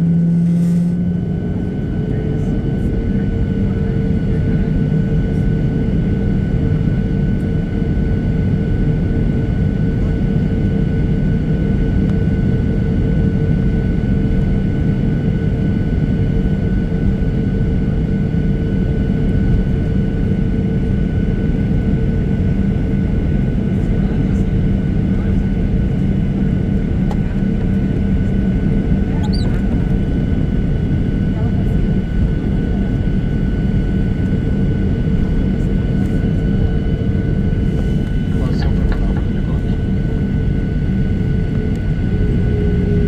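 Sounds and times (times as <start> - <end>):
jet engine whine: 0.0 - 43.0
jet engines rumbling: 0.0 - 43.0.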